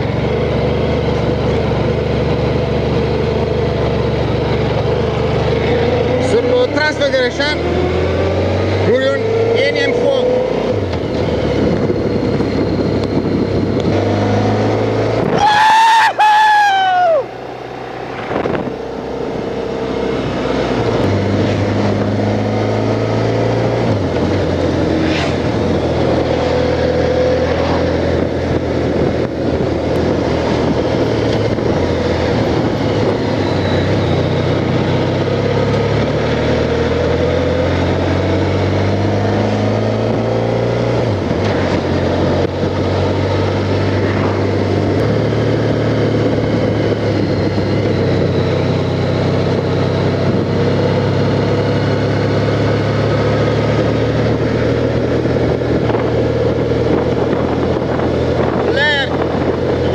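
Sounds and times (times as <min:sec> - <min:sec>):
motorcycle engine running: 0:00.0 - 0:15.7, 0:16.4 - 0:59.9.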